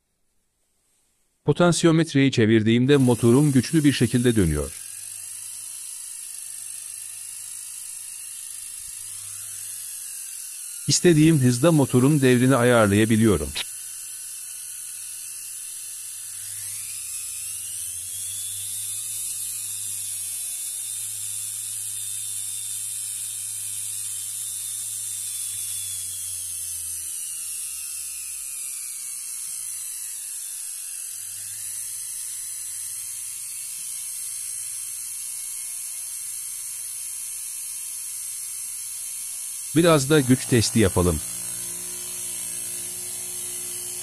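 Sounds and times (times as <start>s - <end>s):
electric motor whine: 2.9s - 44.0s.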